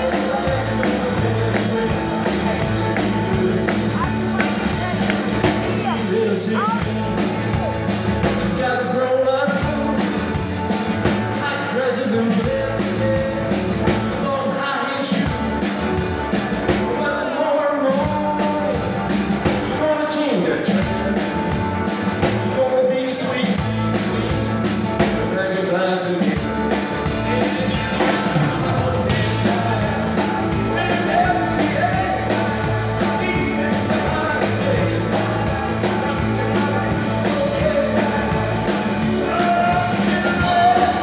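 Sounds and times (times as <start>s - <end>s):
man singing lead vocals: 0.0s - 15.8s, 16.6s - 41.0s
live rock band playing: 0.0s - 41.0s.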